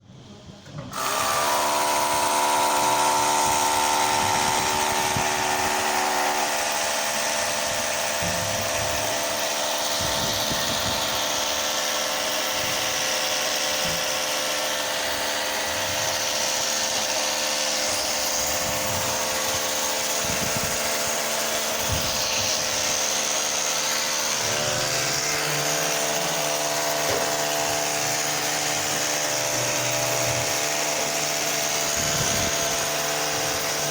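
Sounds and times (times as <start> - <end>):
electric power tool motor whine: 0.6 - 33.9.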